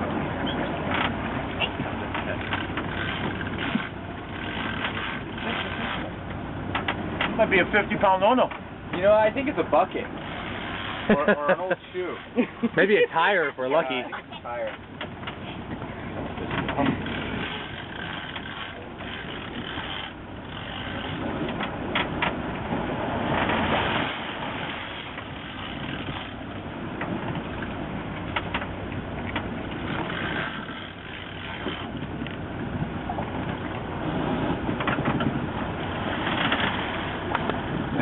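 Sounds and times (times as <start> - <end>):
boat engine running: 0.0 - 38.0
wind and water rushing: 0.0 - 38.0.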